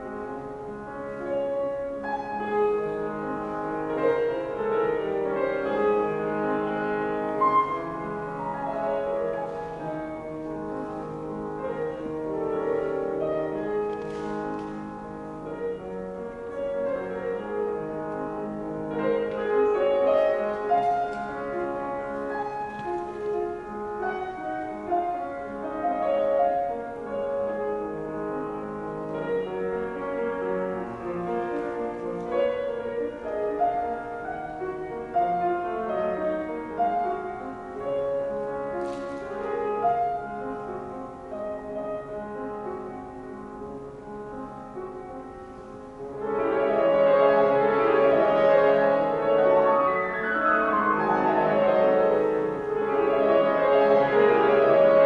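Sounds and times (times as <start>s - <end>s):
grand piano playing classical piece: 0.0s - 55.0s.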